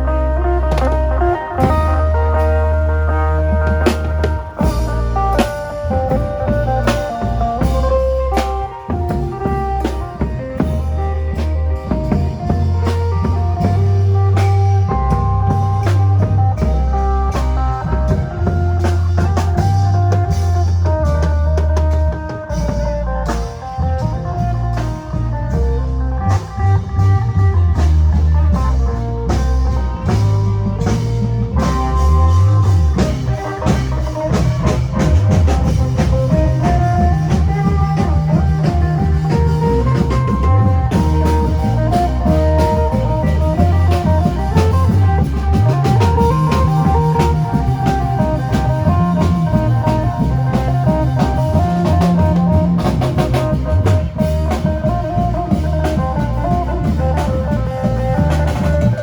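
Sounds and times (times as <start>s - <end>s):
bass line: 0.0s - 59.0s
drum kit beat: 0.0s - 59.0s.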